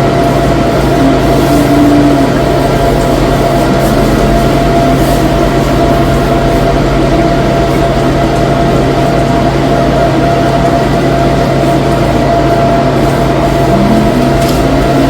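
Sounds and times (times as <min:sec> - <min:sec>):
steady loud drone: 0:00.0 - 0:15.0.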